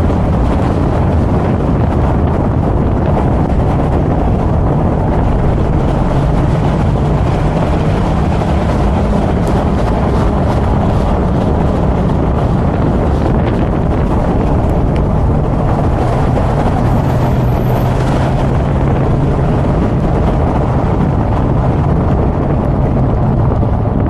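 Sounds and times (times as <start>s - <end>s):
car engine running: 0.0s - 24.0s
wind buffeting microphone: 0.0s - 24.0s.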